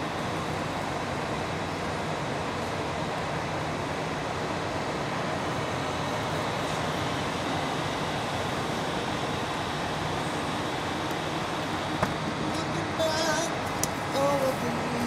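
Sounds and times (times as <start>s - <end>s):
airport background din: 0.0s - 15.0s.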